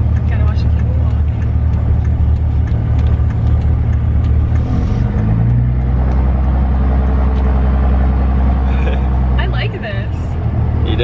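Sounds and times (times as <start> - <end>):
diesel engine drone from inside cab: 0.0 - 11.0.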